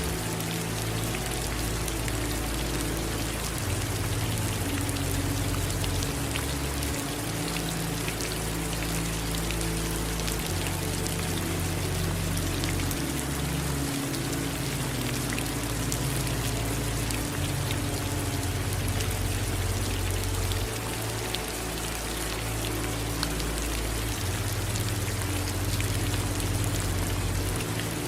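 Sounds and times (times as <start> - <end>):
low hum: 0.0 - 28.0
steady rain: 0.0 - 28.0.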